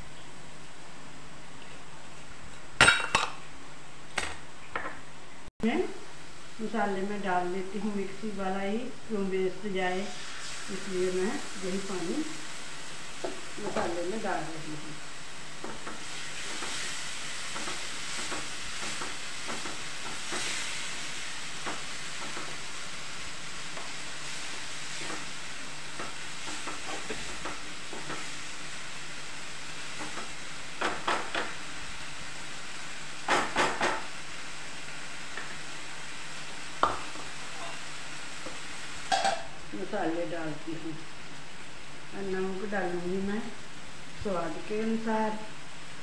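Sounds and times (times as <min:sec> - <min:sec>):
sauce sizzling in a pan: 0:05.6 - 0:46.0.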